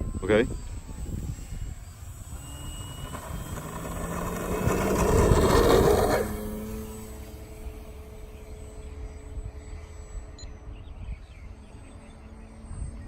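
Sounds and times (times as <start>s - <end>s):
model plane motor and propeller: 0.0s - 13.0s.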